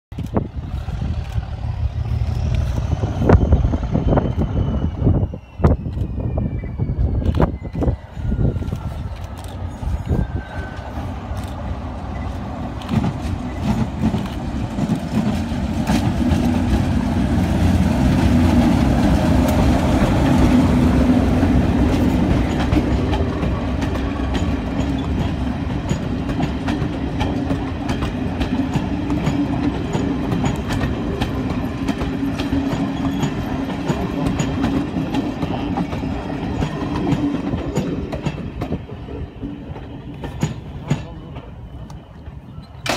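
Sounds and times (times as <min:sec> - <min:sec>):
train wheels clicking over rail joints: 0:00.1 - 0:06.2, 0:08.6 - 0:42.9
diesel locomotive engine passing: 0:00.1 - 0:42.9.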